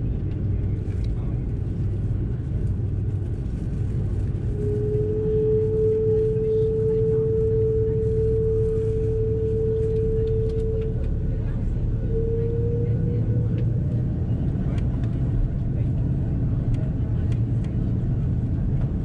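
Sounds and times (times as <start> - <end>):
aircraft cabin rumble: 0.0 - 19.0
mid-pitched whine: 1.8 - 19.0.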